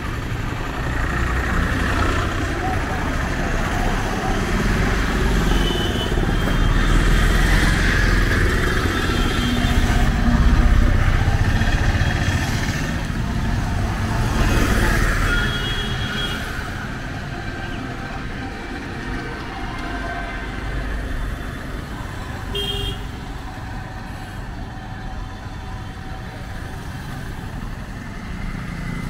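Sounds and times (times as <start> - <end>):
motorcycles and rickshaws passing: 0.0 - 29.0.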